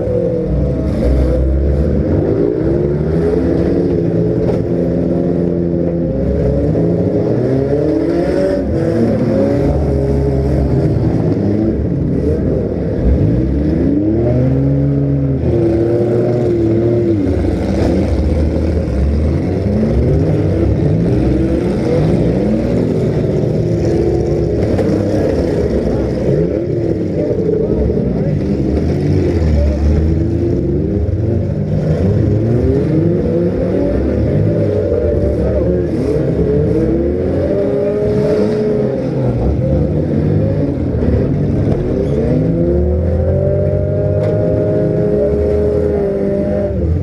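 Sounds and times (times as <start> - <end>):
car engines revving: 0.0 - 47.0.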